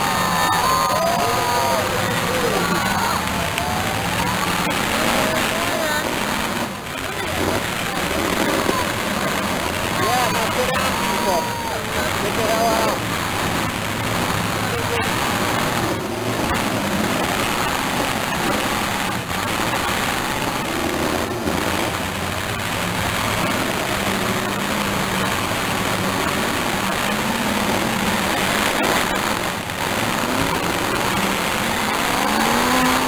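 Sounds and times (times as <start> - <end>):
car engines running and revving: 0.0 - 33.0
engine revving up: 0.0 - 33.0.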